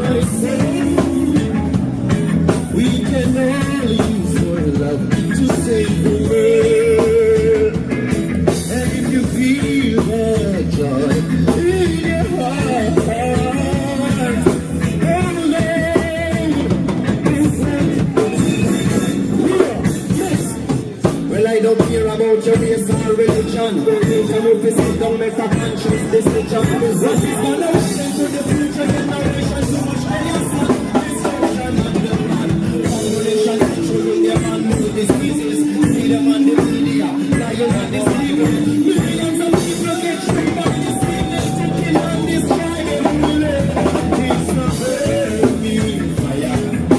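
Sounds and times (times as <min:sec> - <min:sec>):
person singing: 0:00.0 - 0:46.9
reggae band playing live: 0:00.0 - 0:46.9.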